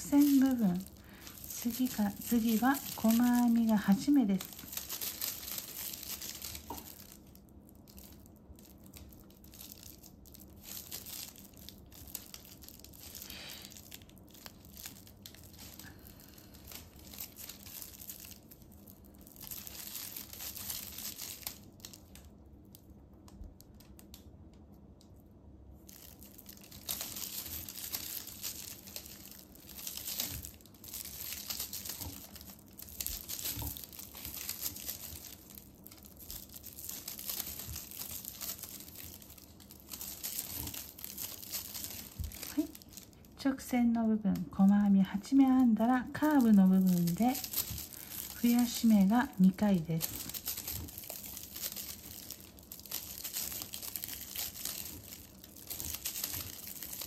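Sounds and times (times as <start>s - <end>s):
plastic tape crinkling: 0.0s - 57.0s.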